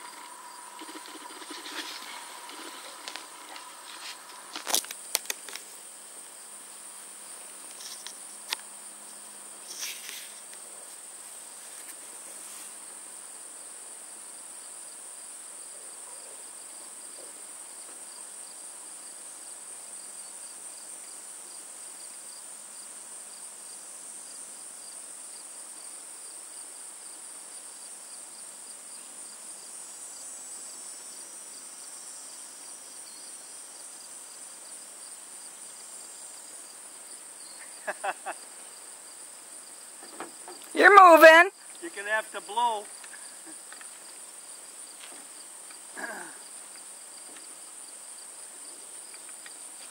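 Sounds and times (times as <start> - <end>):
insects chirring: 0.0 - 49.9
second insect trill: 0.0 - 49.9.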